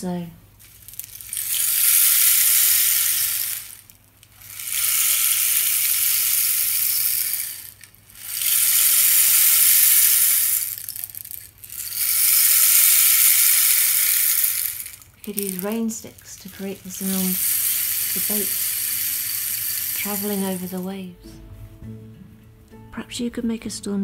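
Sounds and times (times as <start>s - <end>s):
rain stick trickling hiss: 0.6s - 21.0s.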